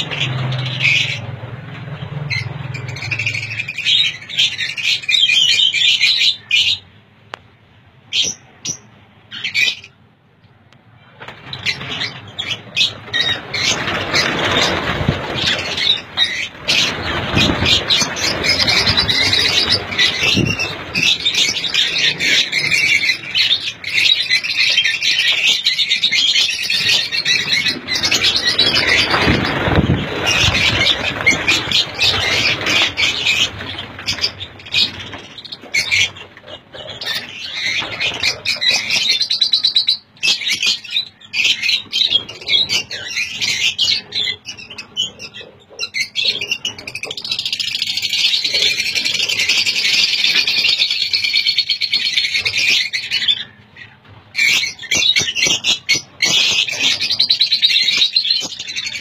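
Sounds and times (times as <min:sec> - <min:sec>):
lovebirds chirping and chattering: 0:00.0 - 0:06.9, 0:08.1 - 0:10.1, 0:11.0 - 0:59.0.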